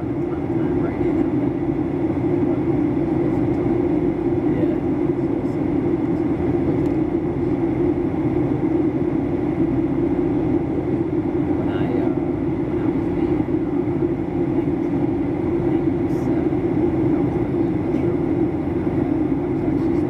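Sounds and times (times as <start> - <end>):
airplane cabin airflow and engine hum: 0.0 - 20.0.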